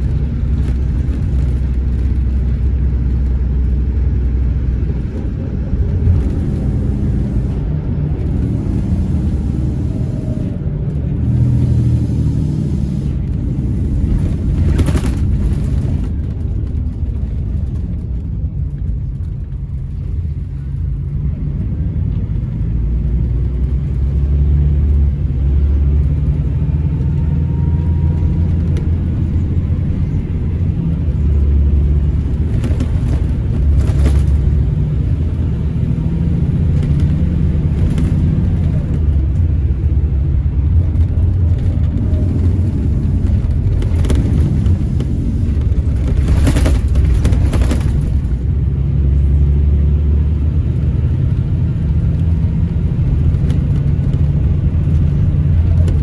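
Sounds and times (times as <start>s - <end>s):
coach diesel engine and road rumble: 0.0s - 56.0s.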